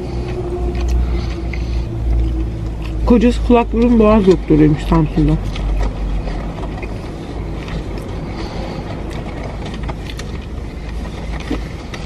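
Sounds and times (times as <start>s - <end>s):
car cabin engine rumble: 0.0s - 12.0s.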